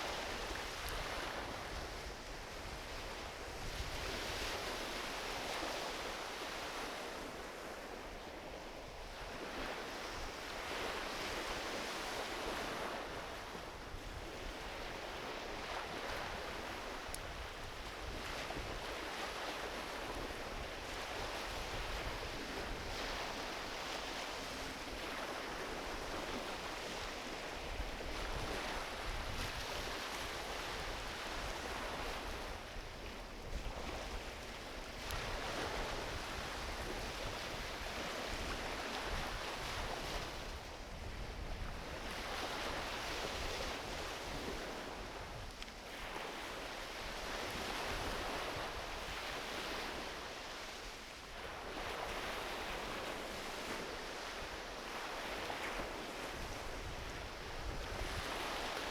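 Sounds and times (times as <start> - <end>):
ocean waves washing onto beach: 0.0 - 58.9.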